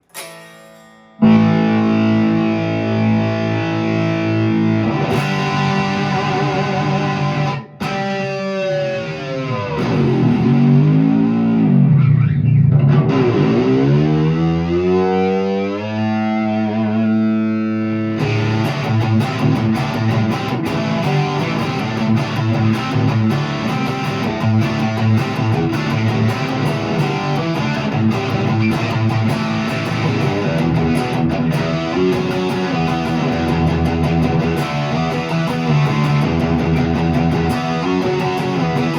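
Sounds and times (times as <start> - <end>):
distorted electric guitar chords: 0.0 - 38.9
fast guitar riffing: 1.2 - 38.9.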